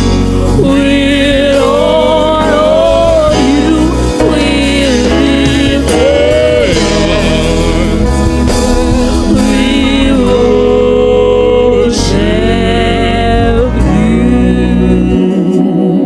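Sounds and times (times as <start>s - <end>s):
band playing slow worship song: 0.0s - 16.0s
person singing long notes: 0.6s - 16.0s.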